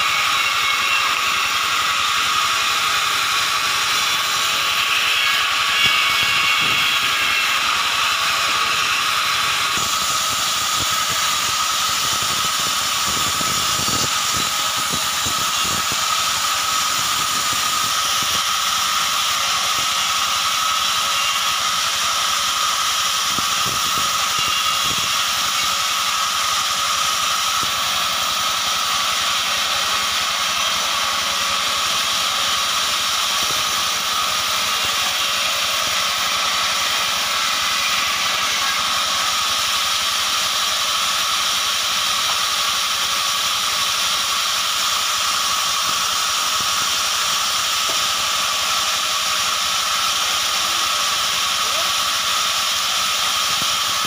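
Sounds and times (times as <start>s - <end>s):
bandsaw sawing logs: 0.0s - 54.0s.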